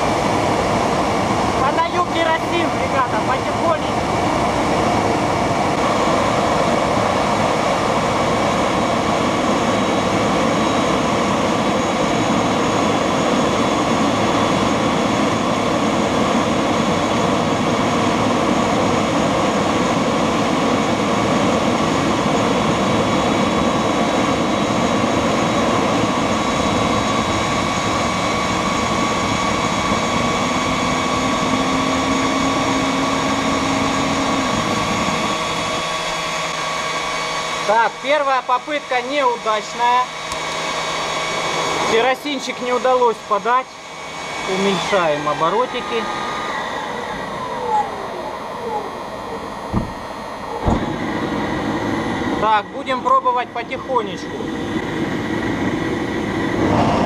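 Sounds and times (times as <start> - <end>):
high whine: 0.0 - 57.0
jet engine rushing roar: 0.0 - 57.0.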